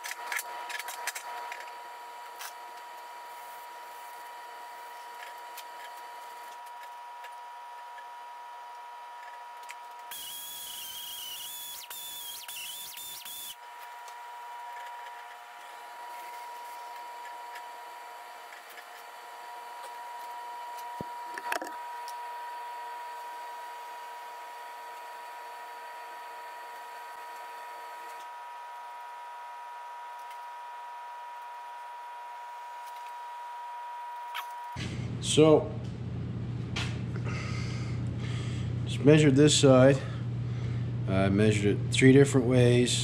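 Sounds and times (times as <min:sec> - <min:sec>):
die grinder whining: 0:00.0 - 0:34.8
steady hum: 0:00.0 - 0:43.0.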